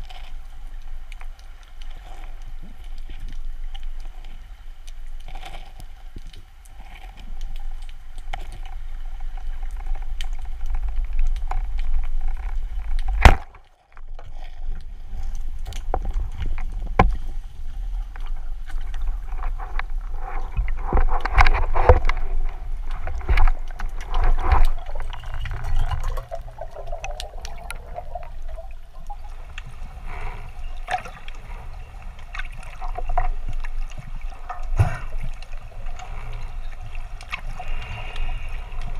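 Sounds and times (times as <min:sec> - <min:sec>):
underwater water rumble: 0:00.0 - 0:38.9.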